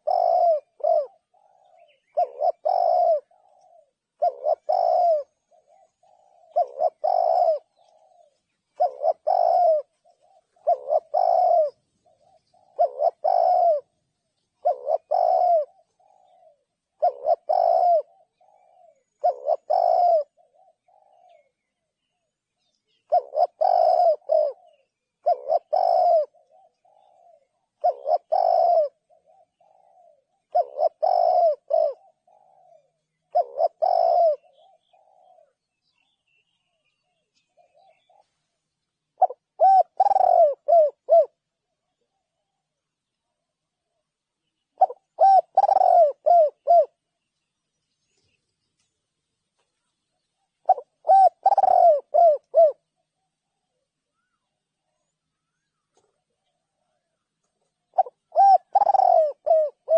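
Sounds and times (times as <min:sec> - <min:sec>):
dove cooing: 0:00.0 - 0:47.3, 0:50.1 - 0:59.9.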